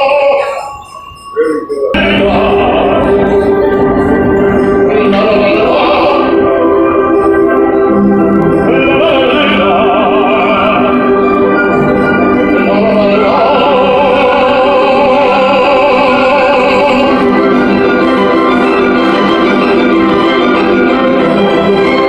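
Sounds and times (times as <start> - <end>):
man singing opera: 0.0 - 0.8, 1.4 - 18.4
instrumental accompaniment: 0.0 - 22.0.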